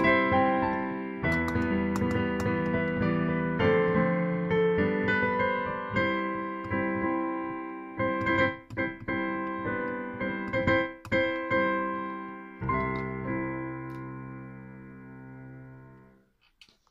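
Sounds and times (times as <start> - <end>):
piano notes and chords: 0.0 - 16.4.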